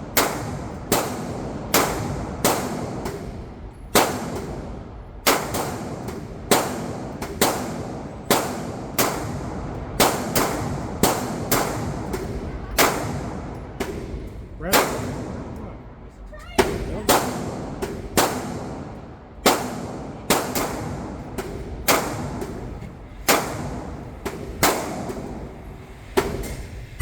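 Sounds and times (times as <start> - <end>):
gunshots with echo: 0.0 - 15.9, 16.6 - 26.8.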